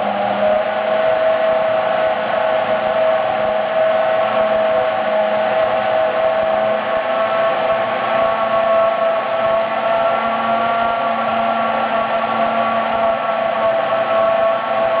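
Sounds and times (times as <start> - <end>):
racing engine high-pitched tone: 0.0 - 15.0.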